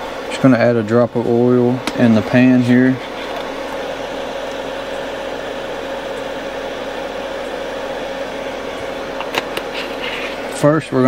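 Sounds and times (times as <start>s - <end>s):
appliance fans whirring: 0.0s - 11.0s.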